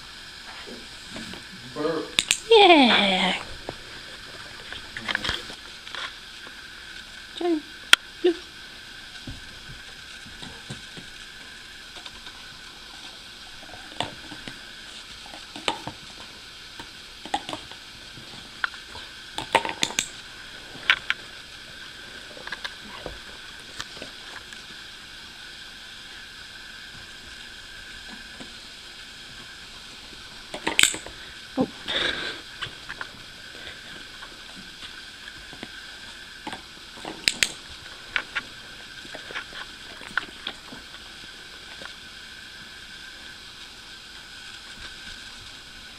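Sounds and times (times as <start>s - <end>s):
faint hiss: 0.0s - 45.9s.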